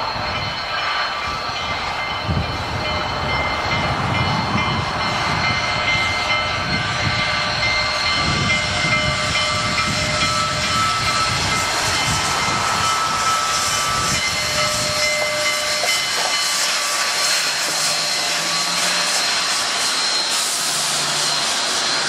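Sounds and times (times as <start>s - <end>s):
steam locomotive chuffing: 0.0s - 22.0s
thin high tones: 0.1s - 22.0s.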